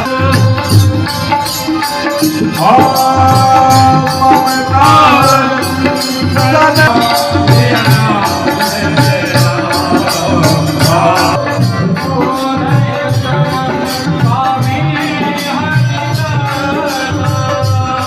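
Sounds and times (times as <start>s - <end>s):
jingling percussion beat: 0.0s - 18.0s
person singing devotional melody: 0.0s - 18.0s.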